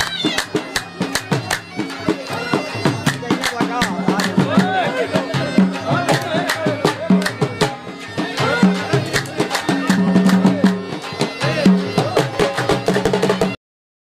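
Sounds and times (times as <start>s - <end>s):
hand drum strikes: 0.0s - 13.6s
ornamented string melody: 0.0s - 13.6s.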